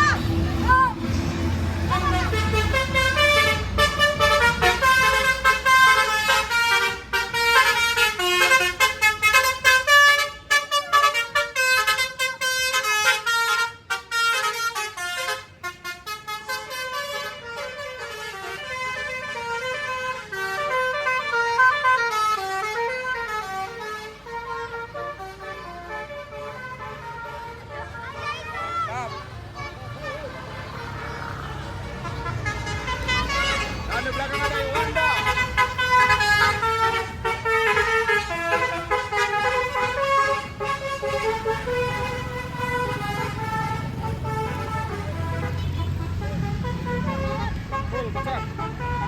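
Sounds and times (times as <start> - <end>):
multi-tone bus horn tune: 0.0 - 49.0.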